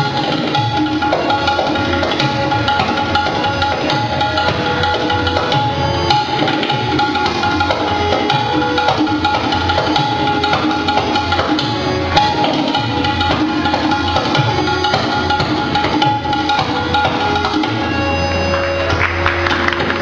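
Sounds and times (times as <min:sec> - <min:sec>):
harmonium sustained tones: 0:00.0 - 0:20.0
rapid tabla strokes: 0:00.0 - 0:20.0.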